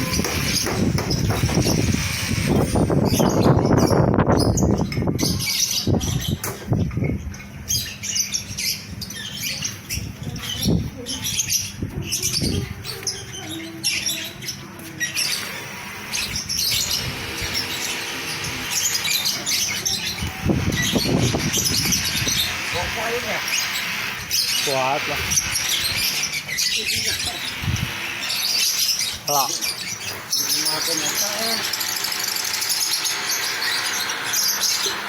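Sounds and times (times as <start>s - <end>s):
lovebirds chirping: 0.0s - 35.0s.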